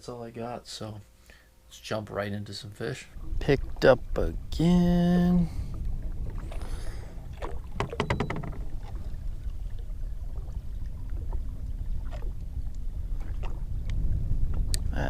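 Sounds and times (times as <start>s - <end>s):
boat engine rumble: 2.8s - 15.0s.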